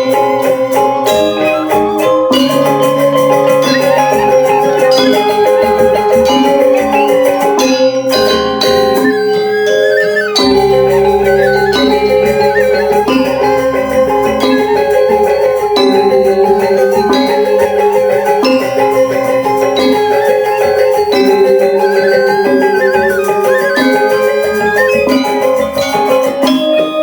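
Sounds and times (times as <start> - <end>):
gamelan metallophones and gongs: 0.0 - 27.0.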